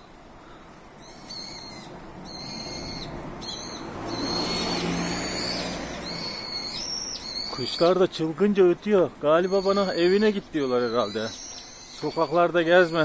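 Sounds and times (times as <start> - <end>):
birds whistling: 0.0 - 13.0.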